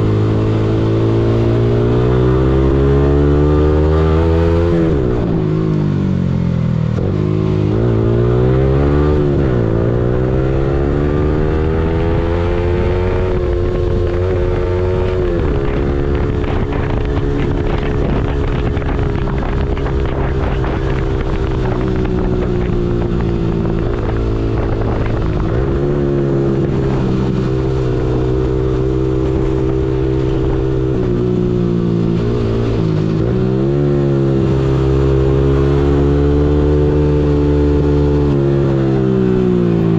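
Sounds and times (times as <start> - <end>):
motorcycle engine revving: 0.0 - 39.9
wind rush: 7.0 - 39.9.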